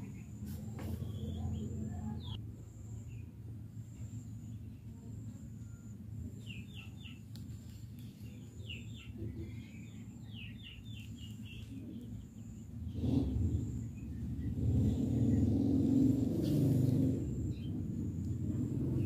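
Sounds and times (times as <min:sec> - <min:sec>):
birds chirping: 0:00.0 - 0:19.0
low background rumble: 0:01.0 - 0:19.0.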